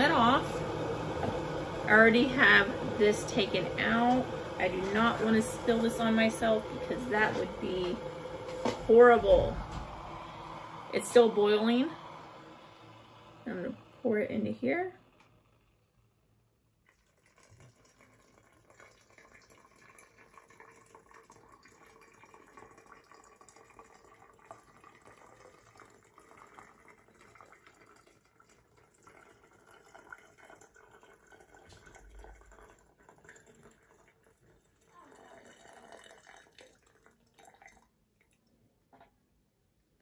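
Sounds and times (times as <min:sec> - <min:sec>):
water trickling from kettle: 0:00.0 - 0:14.4, 0:16.7 - 0:38.6.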